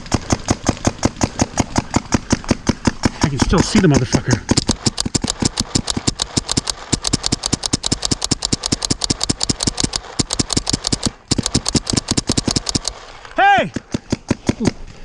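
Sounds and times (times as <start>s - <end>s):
paintball marker firing rapidly: 0.0s - 15.0s.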